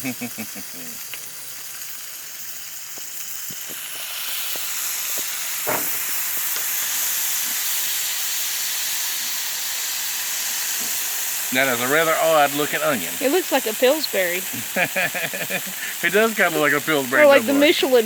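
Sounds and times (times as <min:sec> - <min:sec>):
food sizzling on a griddle: 0:00.0 - 0:18.0.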